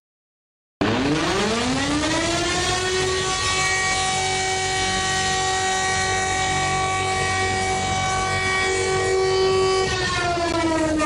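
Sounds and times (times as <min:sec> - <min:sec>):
siren wailing: 0:00.8 - 0:11.0.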